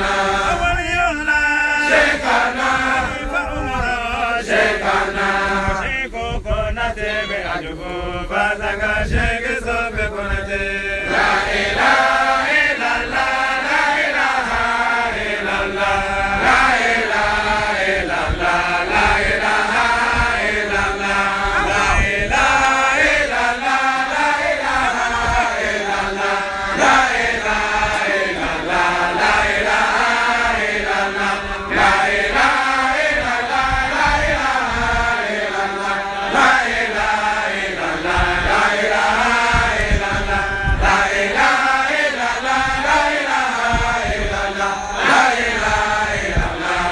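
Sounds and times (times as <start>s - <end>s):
men chanting in unison: 0.0s - 46.9s.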